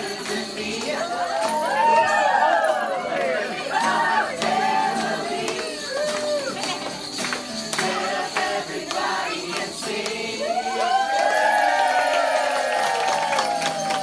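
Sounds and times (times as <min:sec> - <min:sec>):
music with singing: 0:00.0 - 0:12.3.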